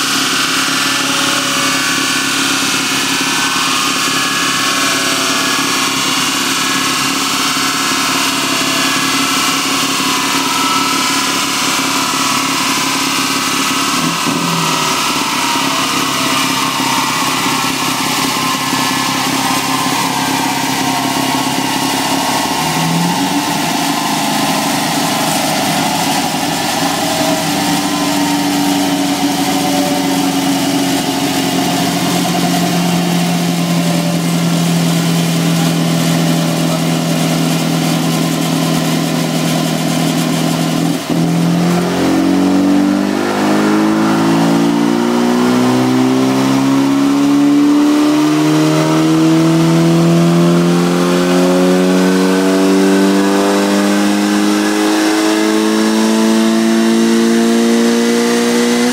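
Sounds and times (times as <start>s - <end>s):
race car engine under load: 0.0s - 58.9s.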